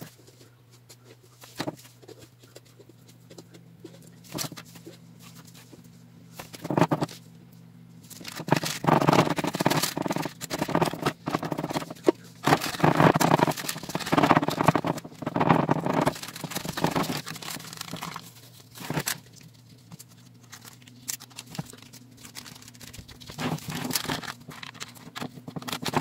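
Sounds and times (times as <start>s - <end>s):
paper rustling and crinkling: 0.0s - 7.3s, 8.0s - 26.0s.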